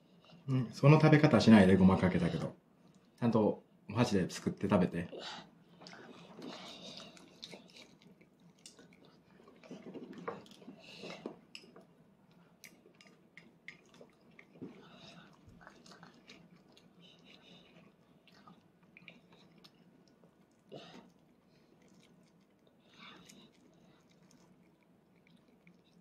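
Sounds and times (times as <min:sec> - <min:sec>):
child chewing: 0:05.1 - 0:26.0.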